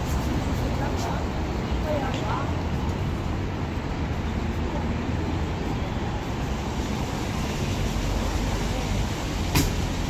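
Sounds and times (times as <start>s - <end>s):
urban vehicle rumble: 0.0s - 10.0s.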